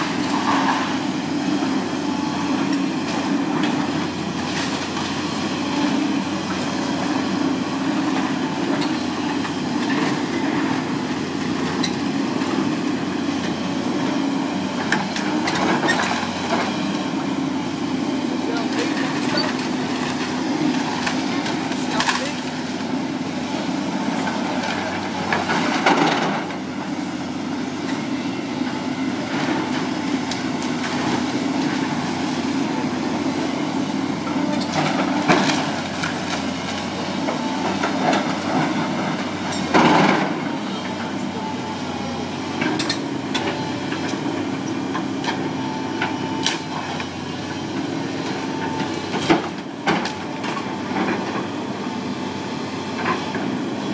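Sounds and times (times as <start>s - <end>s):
machine engine running: 0.0s - 53.9s.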